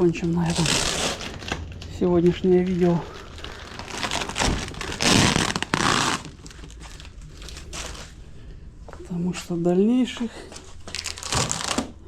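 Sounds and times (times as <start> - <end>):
material crinkling and rustling: 0.0 - 12.0.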